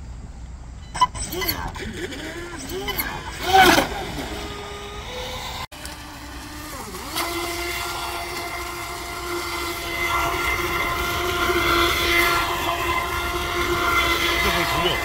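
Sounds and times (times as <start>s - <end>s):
electric motor whine: 1.1s - 15.0s.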